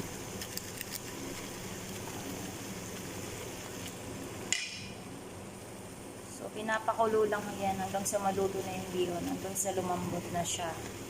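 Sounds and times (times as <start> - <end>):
broth boiling with bubbling hiss: 0.0 - 11.0.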